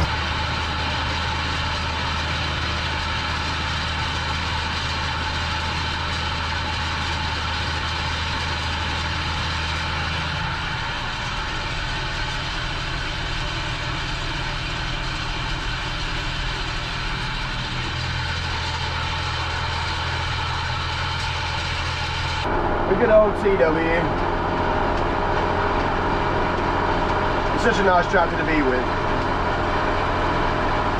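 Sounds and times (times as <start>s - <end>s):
tractor diesel engine droning: 0.0s - 30.9s.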